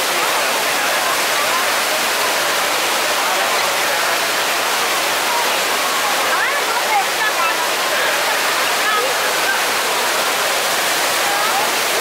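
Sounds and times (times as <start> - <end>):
indoor waterfall rushing: 0.0 - 12.0.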